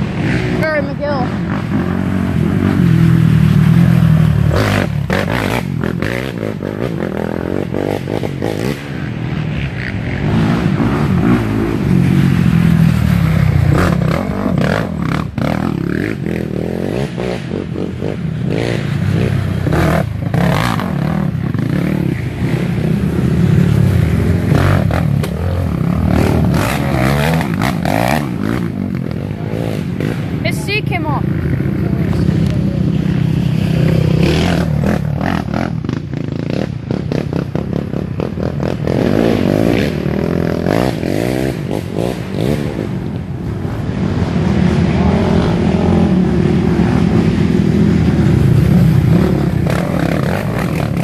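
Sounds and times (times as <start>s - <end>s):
atv engines revving: 0.0s - 51.0s.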